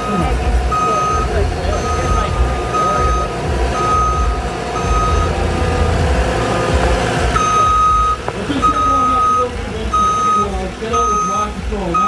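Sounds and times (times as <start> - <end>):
backup alarm beeping: 0.0 - 12.0
machine engine running: 0.0 - 12.0.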